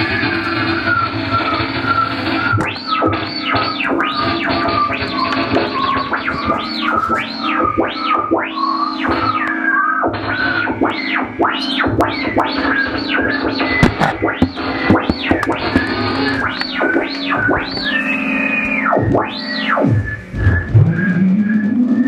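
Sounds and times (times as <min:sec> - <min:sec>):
synthesizer low drone: 0:00.0 - 0:22.0
wavering synth tone with sweeps: 0:00.0 - 0:22.0.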